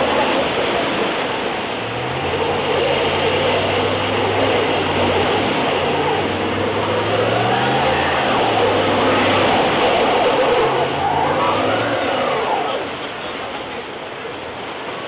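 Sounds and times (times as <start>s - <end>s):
engine revving: 0.0s - 13.4s
surf hissing: 0.0s - 15.0s
wheel churning wet sand: 0.0s - 15.0s.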